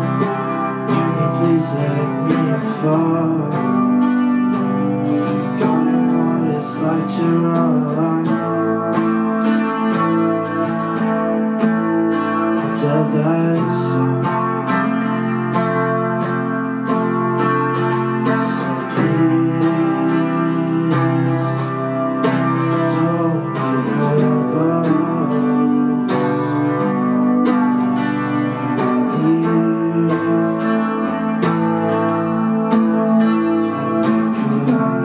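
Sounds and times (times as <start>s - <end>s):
electric guitar playing: 0.0s - 35.0s.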